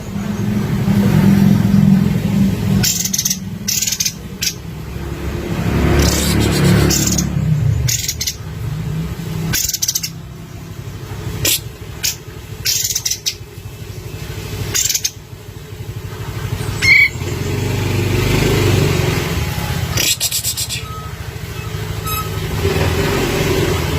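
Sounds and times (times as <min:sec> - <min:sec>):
motor vehicle passing: 0:00.0 - 0:23.9.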